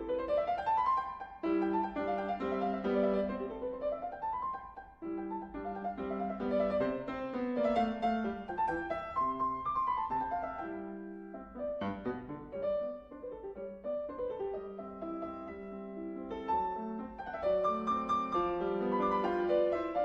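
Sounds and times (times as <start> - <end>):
classical piano music: 0.0 - 20.0.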